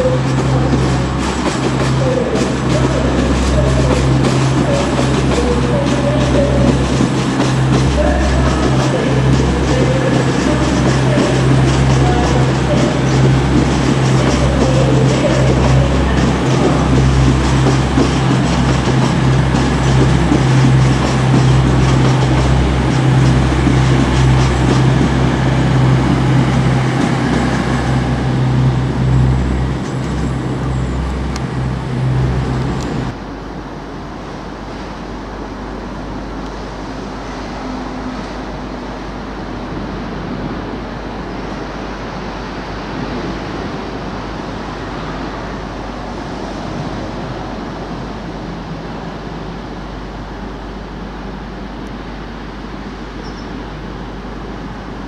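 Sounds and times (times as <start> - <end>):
diesel train passing with engine hum: 0.0 - 55.0
diesel train rumbling slowly: 0.0 - 55.0.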